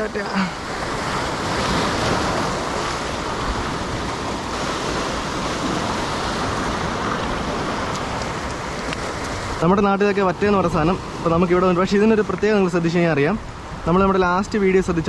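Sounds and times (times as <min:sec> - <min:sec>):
waves breaking on rocky shore: 0:00.0 - 0:15.0.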